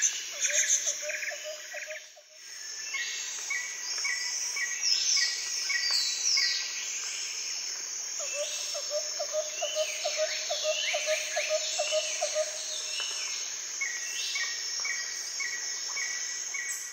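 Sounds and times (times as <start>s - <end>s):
insect drone: 0.0s - 16.9s.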